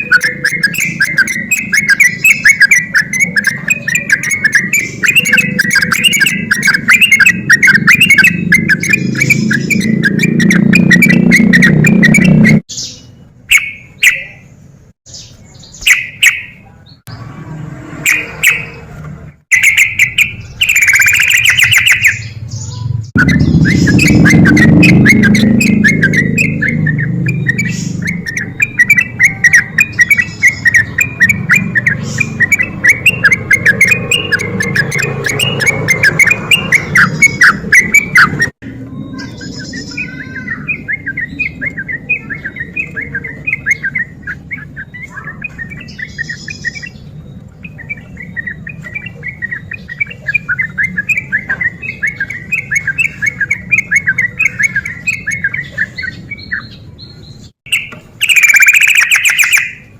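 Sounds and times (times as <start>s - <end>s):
bird singing bubbly chattering phrases: 0.0s - 17.1s, 18.0s - 59.9s.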